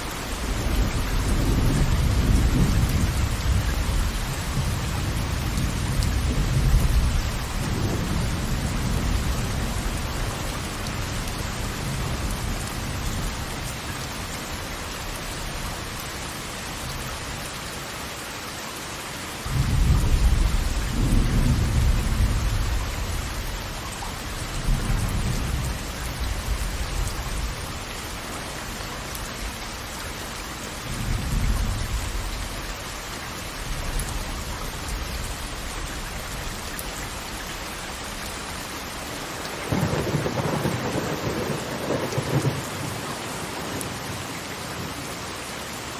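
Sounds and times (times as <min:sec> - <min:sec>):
falling water rushing: 0:00.0 - 0:45.9.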